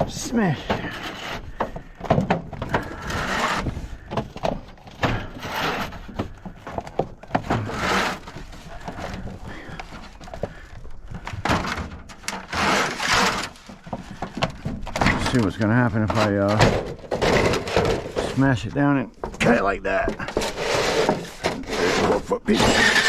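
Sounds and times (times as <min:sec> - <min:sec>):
scrap metal banging and clattering: 0:00.0 - 0:19.5, 0:20.2 - 0:23.0.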